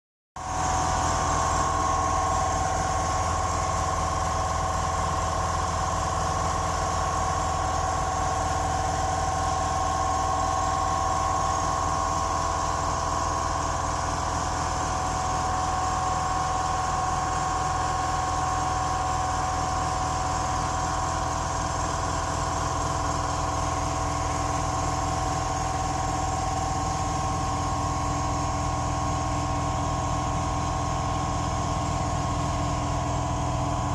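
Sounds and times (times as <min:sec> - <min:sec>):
air pump humming and whining: 0:00.4 - 0:33.9.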